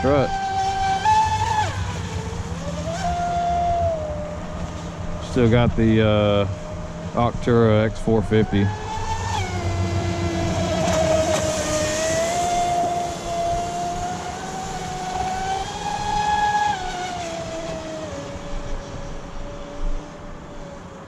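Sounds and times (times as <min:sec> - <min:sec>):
electric boat motor whining: 0:00.0 - 0:21.0.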